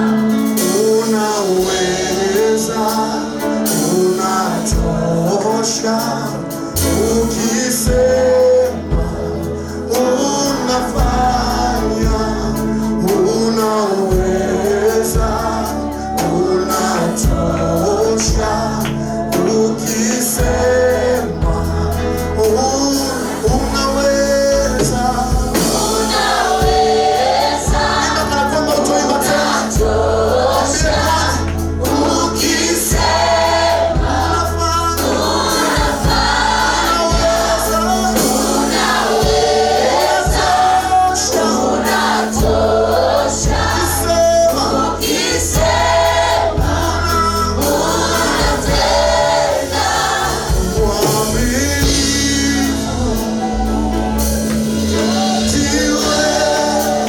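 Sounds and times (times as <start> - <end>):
band with bass and drums: 0.0 - 57.0
choir singing gospel song: 0.0 - 57.0.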